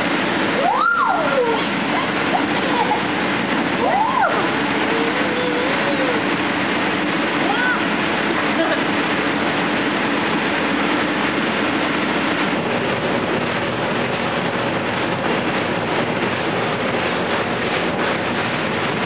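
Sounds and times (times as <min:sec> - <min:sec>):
air blower rushing: 0:00.0 - 0:19.0.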